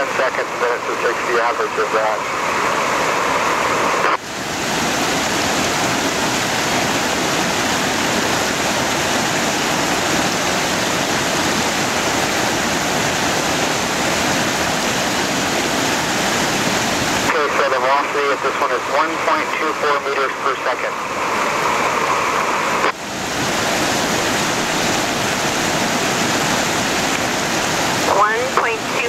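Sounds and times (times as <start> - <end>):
stream rushing over rocks: 0.0 - 29.0.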